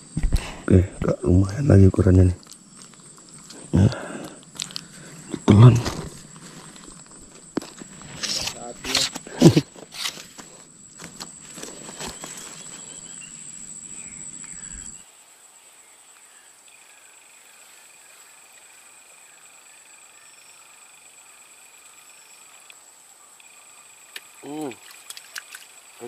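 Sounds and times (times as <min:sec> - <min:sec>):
insects trilling: 0:00.0 - 0:26.0
lower insect trill: 0:00.0 - 0:26.0.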